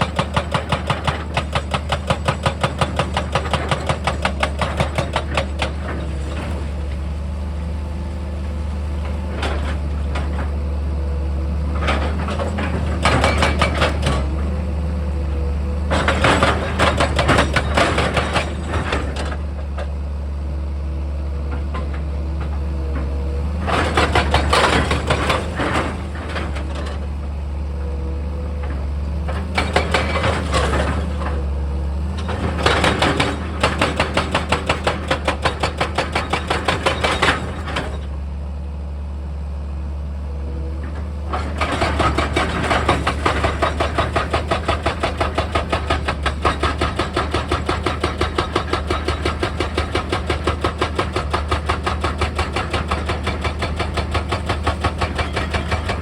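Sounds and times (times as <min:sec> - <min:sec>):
heavy machine engine running: 0:00.0 - 0:56.0.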